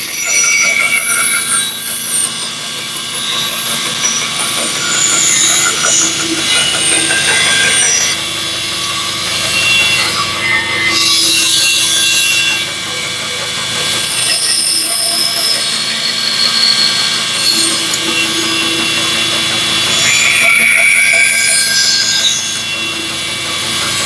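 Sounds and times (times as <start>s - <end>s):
bandsaw cutting wood: 1.7s - 24.0s.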